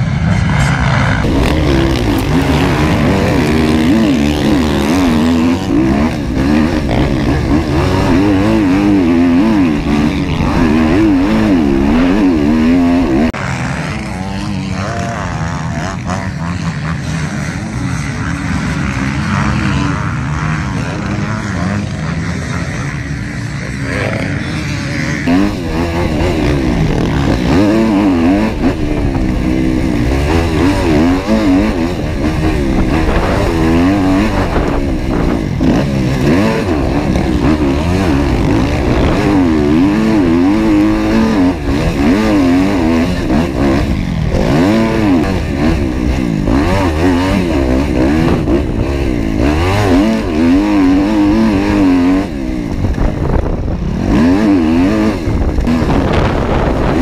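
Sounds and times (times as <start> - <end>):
dirt bike engine revving: 0.0 - 57.0
dirt bikes running: 0.0 - 57.0.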